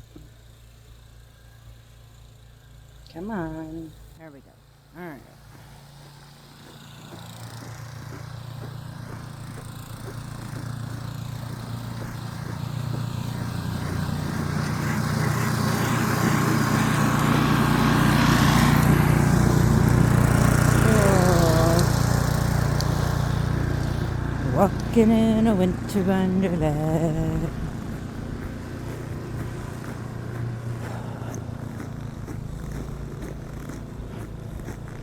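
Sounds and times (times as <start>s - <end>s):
motor vehicle engine: 0.0s - 35.0s.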